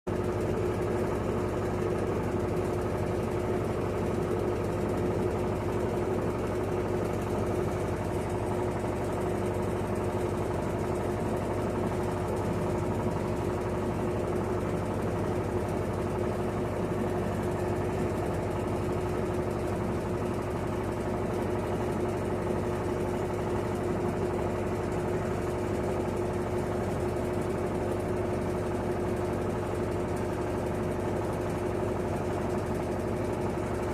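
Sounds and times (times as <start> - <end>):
washing machine spinning: 0.1 - 33.9.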